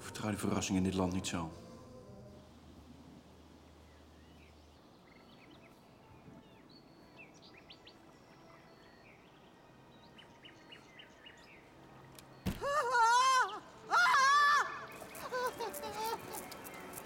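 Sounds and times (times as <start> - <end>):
faint birdsong chirps: 0.0 - 17.0
quiet outdoor ambience: 0.0 - 17.0.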